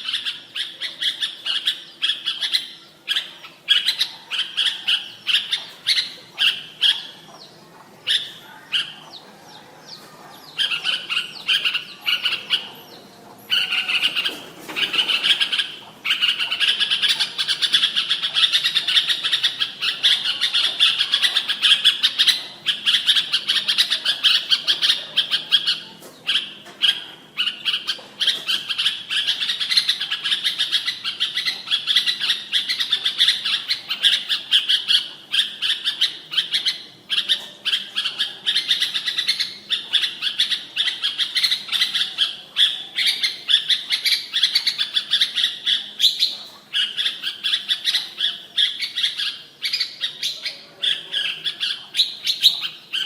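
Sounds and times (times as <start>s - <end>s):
bird chirping and warbling: 0.0s - 53.0s.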